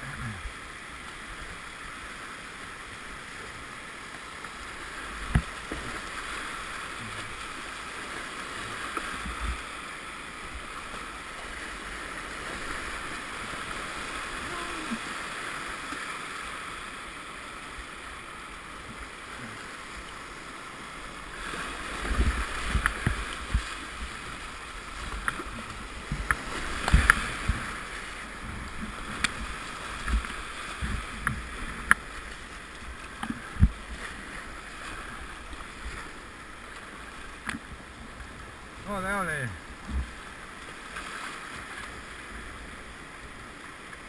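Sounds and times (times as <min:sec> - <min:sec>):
whitewater river rushing: 0:00.0 - 0:37.5
kayak paddle strokes splashing: 0:01.0 - 0:44.0.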